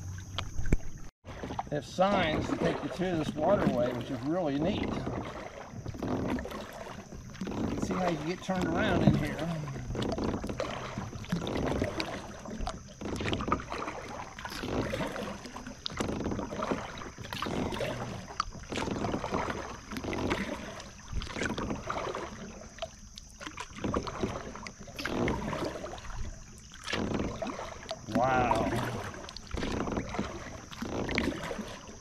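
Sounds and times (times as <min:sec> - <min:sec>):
kayak paddle strokes splashing: 0:00.0 - 0:32.0.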